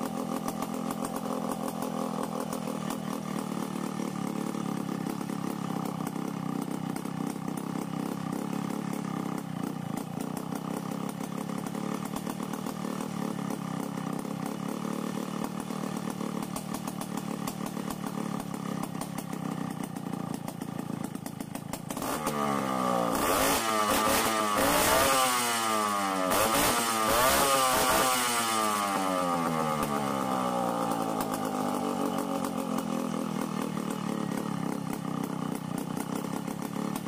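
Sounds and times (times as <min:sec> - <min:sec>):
chainsaw engine idling and revving: 0:00.0 - 0:37.0.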